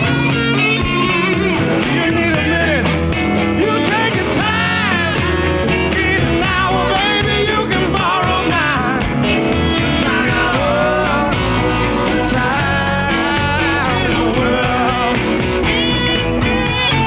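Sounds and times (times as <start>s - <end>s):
band playing rock song: 0.0s - 17.0s
sliding melody line: 0.0s - 17.0s.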